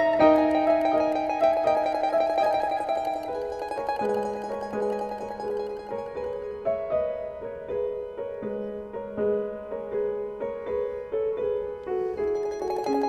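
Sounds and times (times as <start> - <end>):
light instrumental melody: 0.0 - 13.0.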